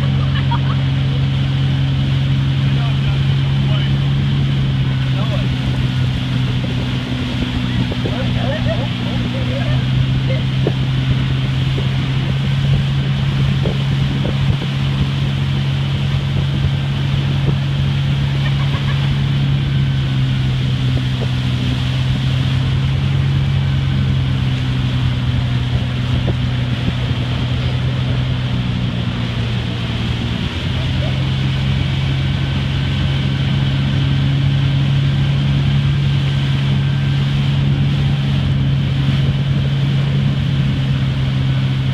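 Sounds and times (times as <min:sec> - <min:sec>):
motorboat engine drone: 0:00.0 - 0:41.9
water rushing: 0:00.0 - 0:41.9
wind on microphone: 0:00.0 - 0:41.9.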